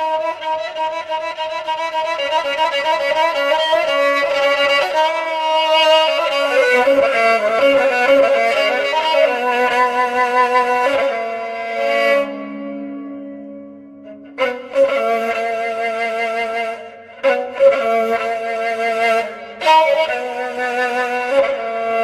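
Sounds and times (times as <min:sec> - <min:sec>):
bowed violin melody: 0:00.0 - 0:22.0.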